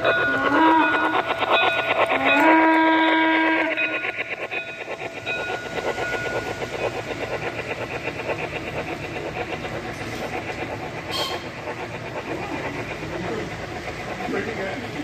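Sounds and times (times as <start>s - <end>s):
model train wheels rattling on track: 0.0s - 15.0s.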